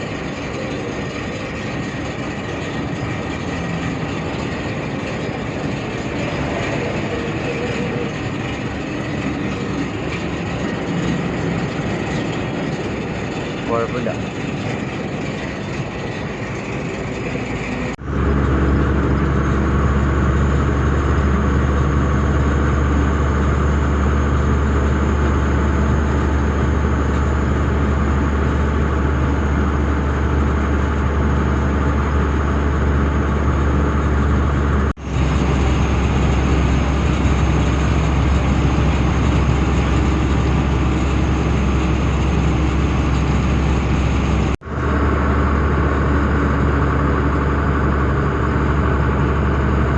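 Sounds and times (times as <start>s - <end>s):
deep rumble: 0.0s - 49.9s
truck diesel engine running: 0.0s - 49.9s.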